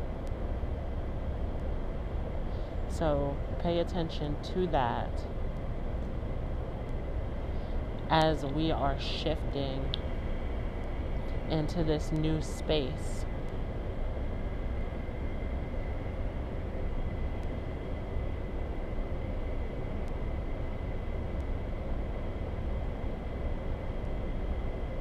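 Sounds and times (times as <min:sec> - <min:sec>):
faint high whine: 0:00.0 - 0:25.0
low background rumble: 0:00.0 - 0:25.0.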